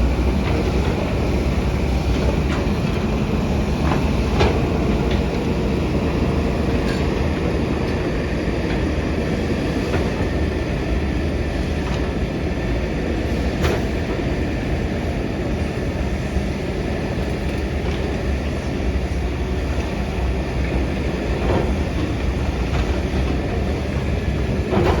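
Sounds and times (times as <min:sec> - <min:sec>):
heavy machine engine rumbling: 0:00.0 - 0:25.0.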